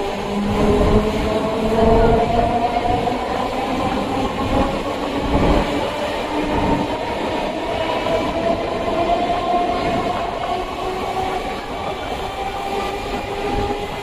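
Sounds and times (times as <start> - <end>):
train wheels rumbling on track: 0.0 - 14.0
train whining tones: 0.0 - 14.0.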